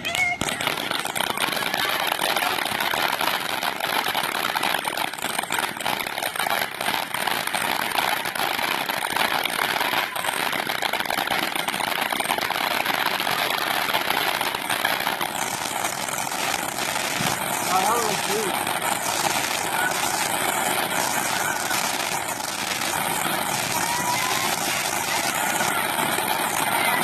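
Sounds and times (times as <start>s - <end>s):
firework volley crackling: 0.0s - 27.0s.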